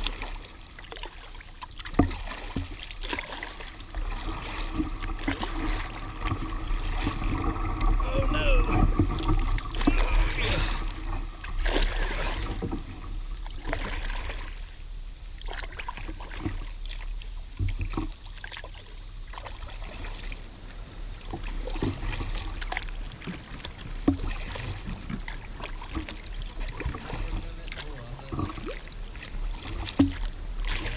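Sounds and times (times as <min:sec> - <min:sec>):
paddle splashes: 0:00.0 - 0:30.9.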